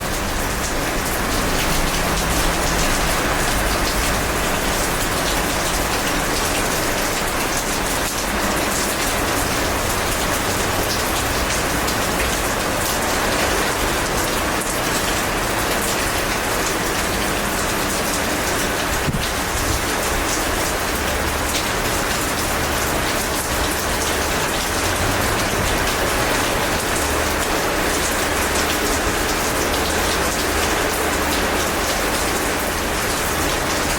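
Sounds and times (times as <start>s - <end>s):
heavy rain: 0.0s - 33.9s
raindrops striking surfaces: 0.0s - 33.9s.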